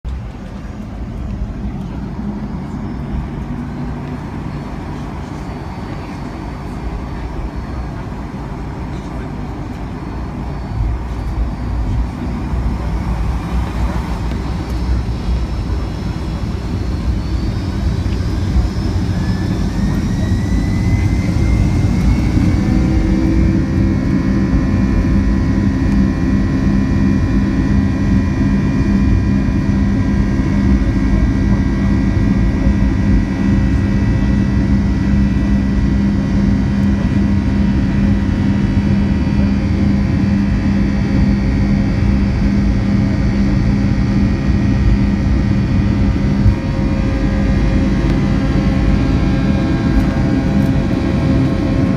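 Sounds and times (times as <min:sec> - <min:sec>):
heavy rumble: 0:00.0 - 0:51.9
jet engines spooling up: 0:00.1 - 0:51.9.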